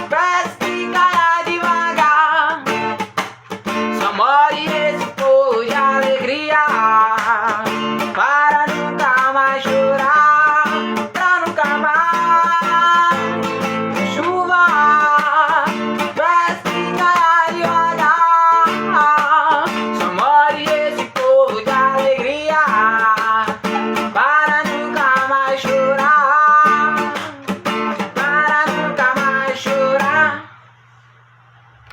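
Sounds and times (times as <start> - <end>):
acoustic guitar strumming: 0.0 - 31.3.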